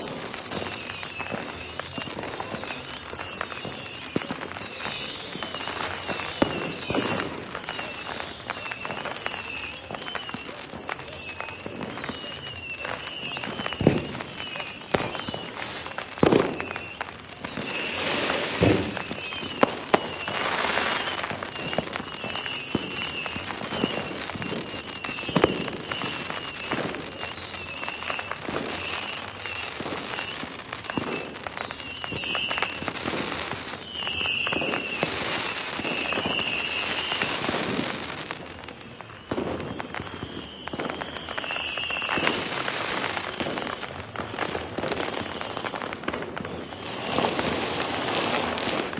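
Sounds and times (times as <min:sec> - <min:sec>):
fireworks crackling and banging: 0:00.0 - 0:48.9
high wavering whistle: 0:00.5 - 0:37.5, 0:38.9 - 0:44.0.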